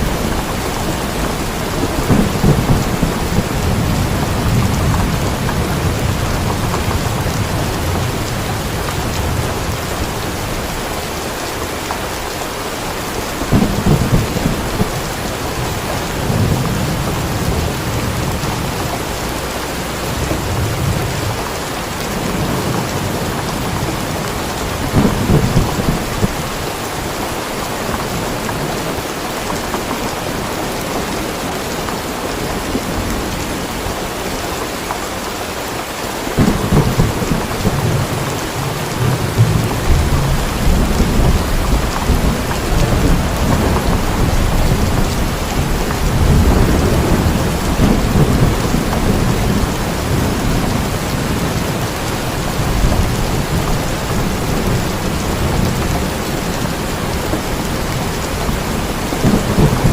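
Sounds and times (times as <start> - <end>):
low rolling thunder: 0.0 - 29.0, 36.2 - 59.9
steady rain: 0.0 - 59.9.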